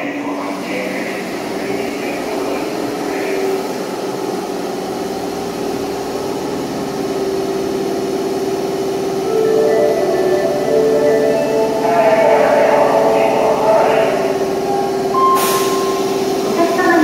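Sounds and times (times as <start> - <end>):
subway train hum and rumble: 0.0 - 17.0.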